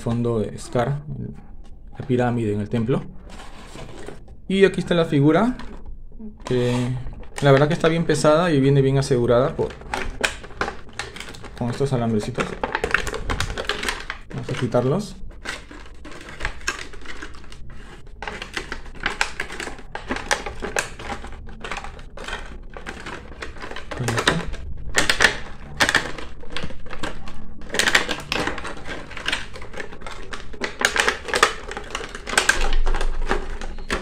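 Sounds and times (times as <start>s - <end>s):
plastic packaging crackling: 0.0s - 34.0s.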